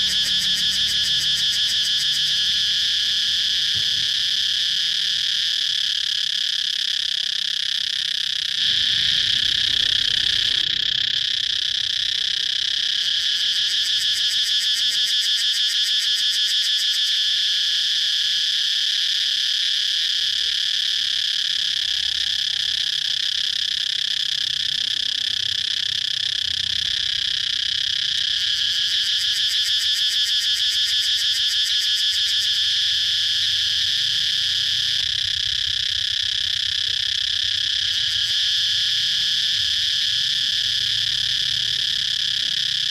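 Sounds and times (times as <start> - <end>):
cicadas buzzing chorus: 0.0 - 42.9.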